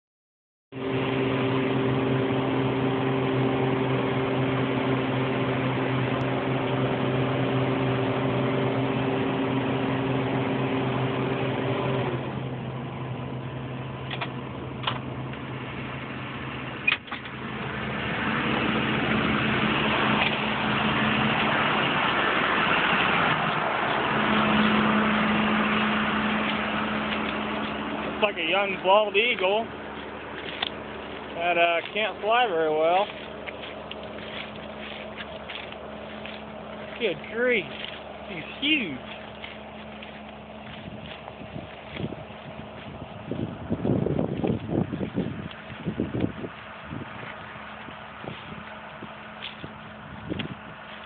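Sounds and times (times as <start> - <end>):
diesel engine running: 0.7 - 51.0.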